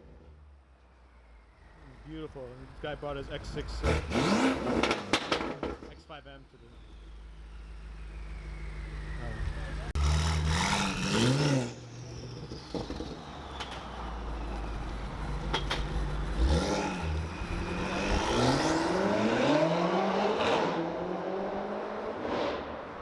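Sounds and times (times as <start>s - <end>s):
car engine revving: 2.6s - 23.0s.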